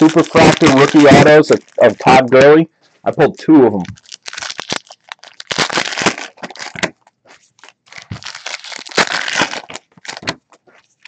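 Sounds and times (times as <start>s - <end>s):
foil wrapper crinkling: 0.0s - 2.5s, 3.8s - 11.0s.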